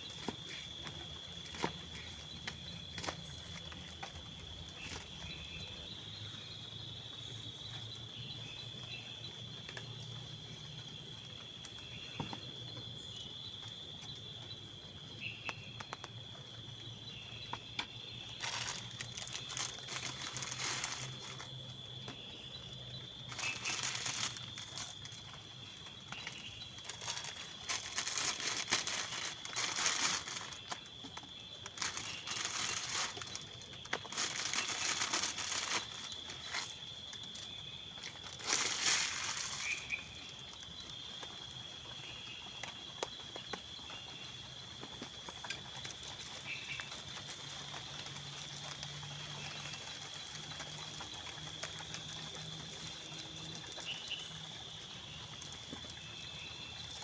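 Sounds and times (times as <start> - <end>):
crinkling and rustling: 0.0 - 6.0, 15.8 - 57.0.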